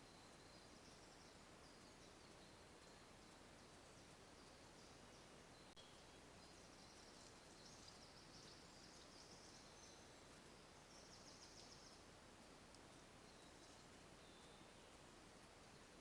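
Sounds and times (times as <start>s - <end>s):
microphone hiss: 0.0s - 16.0s.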